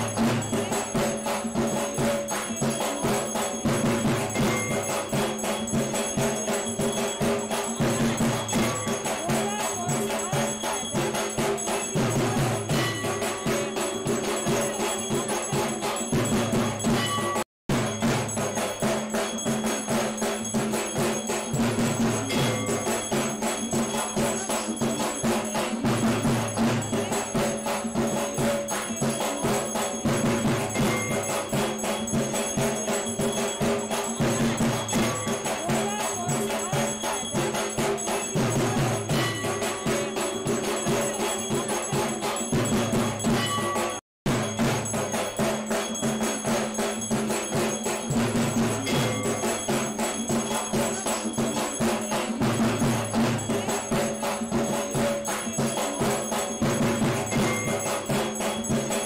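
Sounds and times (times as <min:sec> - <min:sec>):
music with fast percussion beat: 0:00.0 - 0:59.0.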